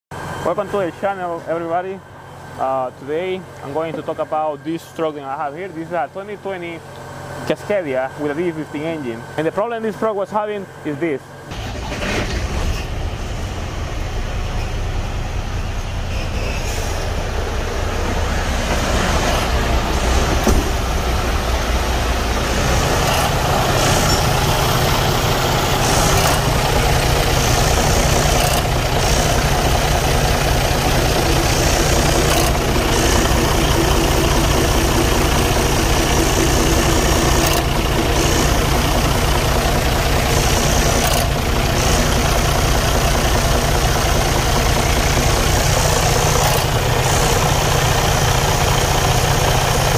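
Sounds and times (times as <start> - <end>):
diesel engine idling: 0.1 - 49.9.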